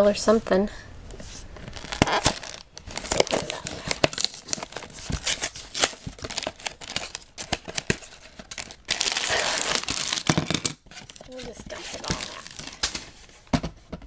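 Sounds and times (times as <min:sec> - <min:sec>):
cardboard box tearing: 0:01.6 - 0:13.1.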